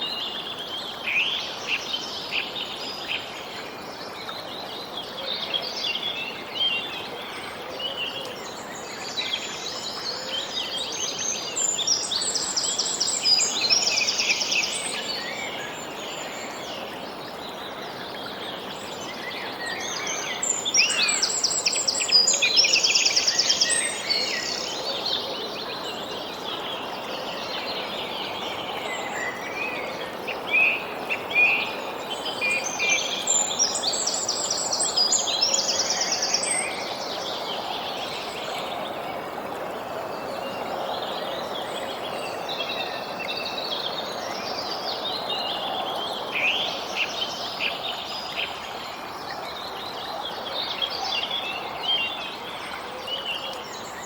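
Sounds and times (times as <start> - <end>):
background noise: 0.0 - 54.0.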